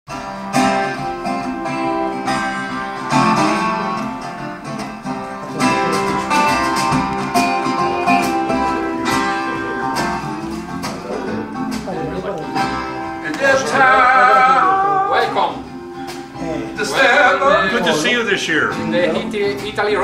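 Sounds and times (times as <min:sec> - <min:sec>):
plucked acoustic guitar music: 0:00.1 - 0:20.0.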